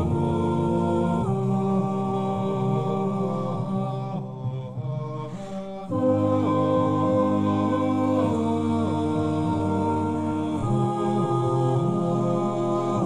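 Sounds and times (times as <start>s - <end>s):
humming-like voices: 0.0s - 13.0s.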